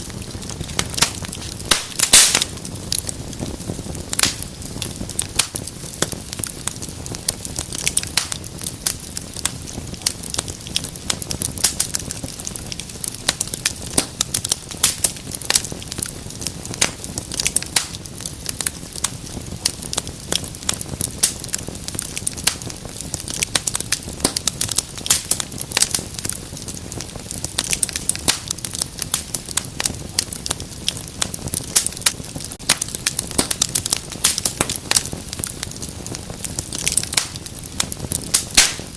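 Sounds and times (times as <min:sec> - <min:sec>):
fire pops and snaps: 0:00.0 - 0:38.9
low rumble of burning: 0:00.0 - 0:38.9
wood fire crackling: 0:00.0 - 0:38.9.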